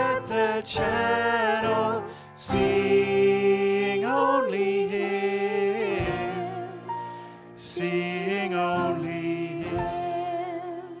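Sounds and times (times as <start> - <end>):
hymn sung slowly: 0.0 - 11.0
instrumental accompaniment: 0.0 - 11.0.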